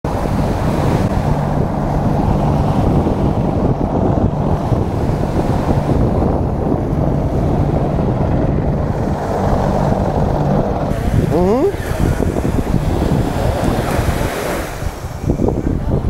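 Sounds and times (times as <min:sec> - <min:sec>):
breaking surf: 0:00.0 - 0:16.0
low engine drone: 0:00.0 - 0:16.0
wind buffeting microphone: 0:00.0 - 0:16.0.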